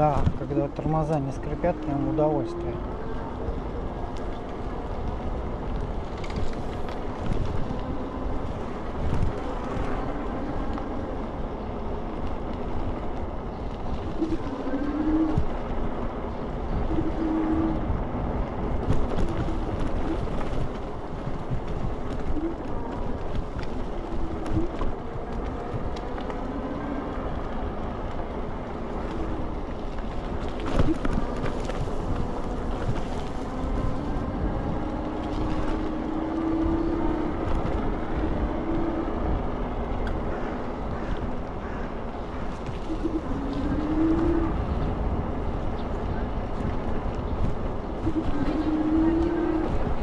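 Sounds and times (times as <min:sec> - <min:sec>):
tyres rumbling on road: 0:00.0 - 0:50.0
wind buffeting microphone: 0:00.0 - 0:50.0.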